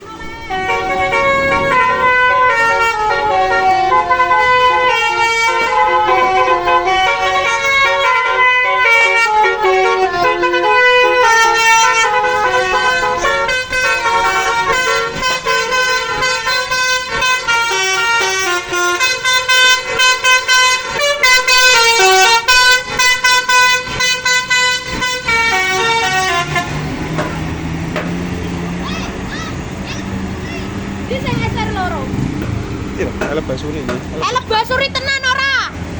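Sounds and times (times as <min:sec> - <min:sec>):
multi-tone bus horn melody: 0:00.0 - 0:35.9.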